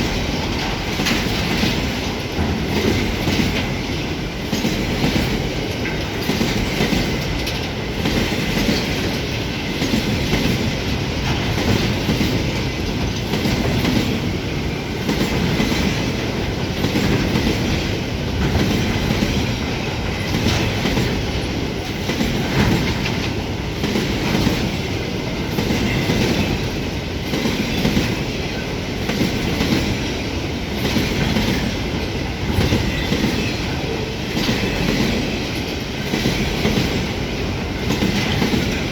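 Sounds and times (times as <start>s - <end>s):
freight train passing: 0.0s - 38.9s
train wheels clattering on rails: 0.0s - 38.9s.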